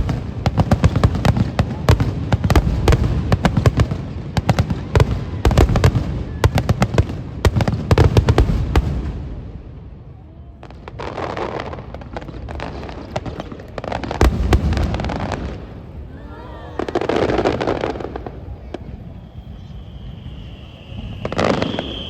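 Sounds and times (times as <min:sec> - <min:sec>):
aerial fireworks bursting: 0:00.0 - 0:09.9, 0:10.7 - 0:22.0.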